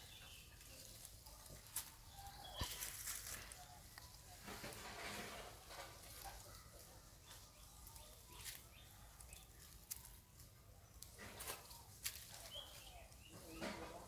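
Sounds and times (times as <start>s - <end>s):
faint rustles: 0.0s - 14.0s.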